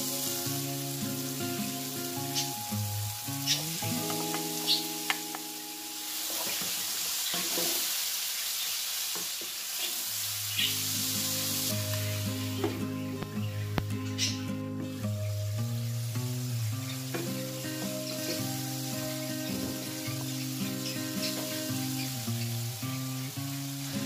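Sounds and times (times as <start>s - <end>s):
vegetables sizzling in oil: 0.0s - 14.5s, 15.1s - 24.0s.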